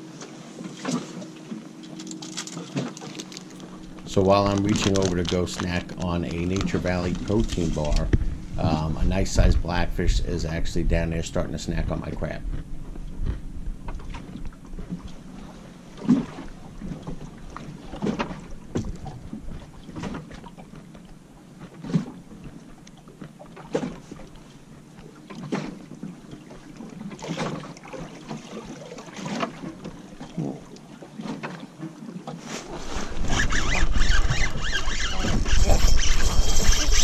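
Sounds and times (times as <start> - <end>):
small waves slapping boat hull: 0.0 - 37.0.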